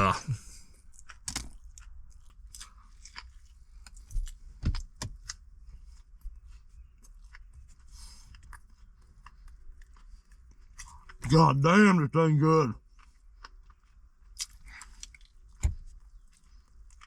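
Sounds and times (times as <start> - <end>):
person chewing a sandwich: 0.1 - 11.4, 12.8 - 17.0.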